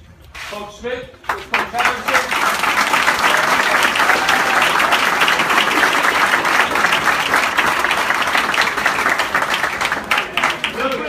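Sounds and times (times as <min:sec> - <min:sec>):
crowd applauding: 0:01.2 - 0:11.0.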